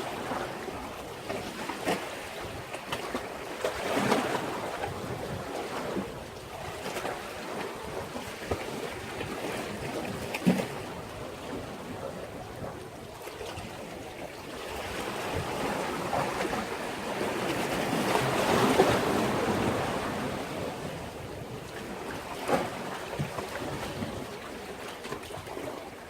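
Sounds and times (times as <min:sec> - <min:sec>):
sea waves against breakwater: 0:00.0 - 0:26.0.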